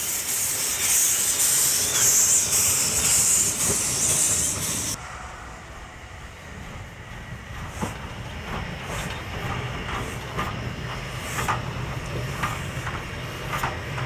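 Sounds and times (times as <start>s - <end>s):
steam locomotive rumbling: 0.0s - 14.0s.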